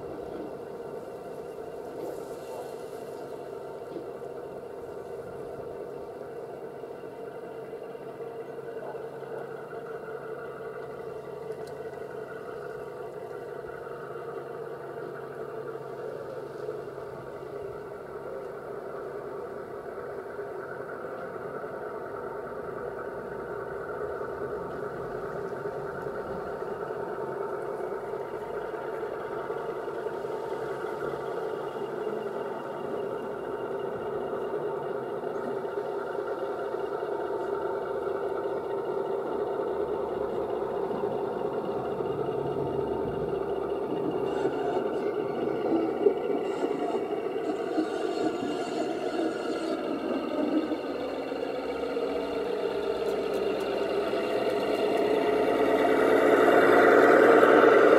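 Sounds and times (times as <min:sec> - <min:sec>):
model train running on track: 0:00.0 - 0:57.9.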